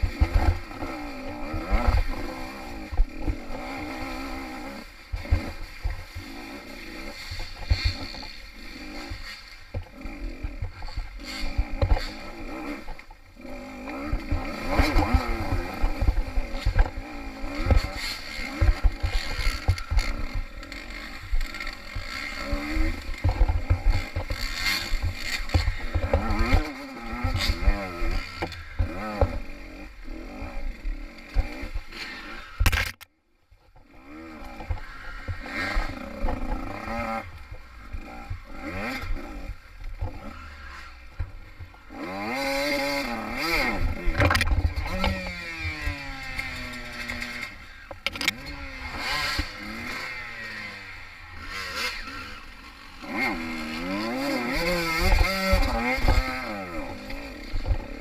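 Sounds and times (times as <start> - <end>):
dirt bike engine revving: 0.0 - 33.0, 33.8 - 58.0.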